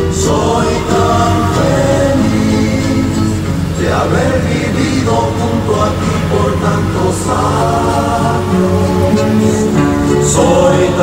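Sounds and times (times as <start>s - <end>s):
slow melodic music: 0.0s - 11.0s.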